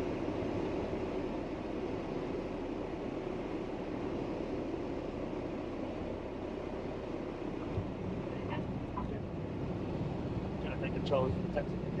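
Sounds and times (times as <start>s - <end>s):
light aircraft engine drone: 0.0s - 12.0s.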